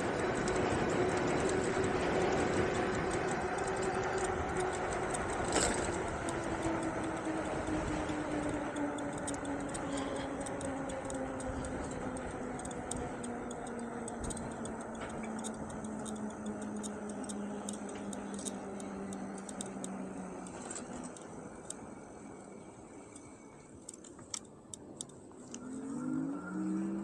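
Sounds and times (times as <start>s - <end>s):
light irregular ticking: 0.0s - 25.6s
e-bike motor whine: 0.0s - 27.0s
wind and tyre noise: 0.0s - 27.0s.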